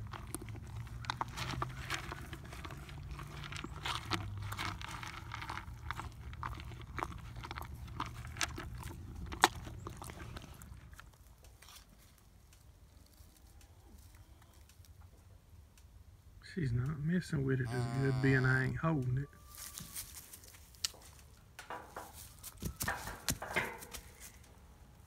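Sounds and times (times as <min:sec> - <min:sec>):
calf crunching feed pellets: 0:00.0 - 0:14.9, 0:17.6 - 0:24.6.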